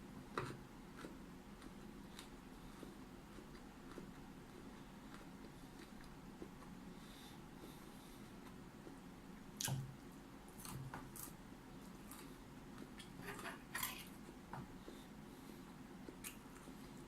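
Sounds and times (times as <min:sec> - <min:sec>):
chewing raw broccoli: 0:00.2 - 0:13.3, 0:14.0 - 0:17.0.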